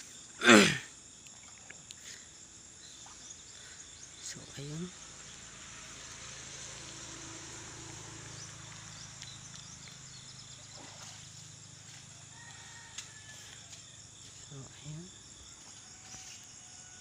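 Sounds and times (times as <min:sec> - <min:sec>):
high insect chirring: 0:00.0 - 0:17.0
low even hum: 0:02.7 - 0:16.8.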